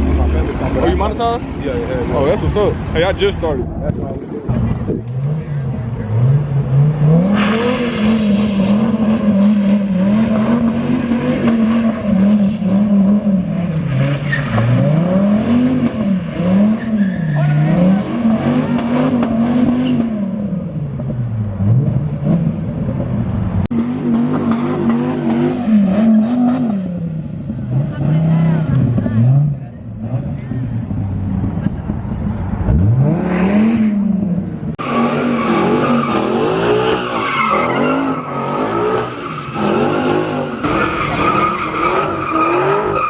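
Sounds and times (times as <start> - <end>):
car engine revving hard: 5.1 - 22.6, 23.7 - 30.5, 32.6 - 43.0.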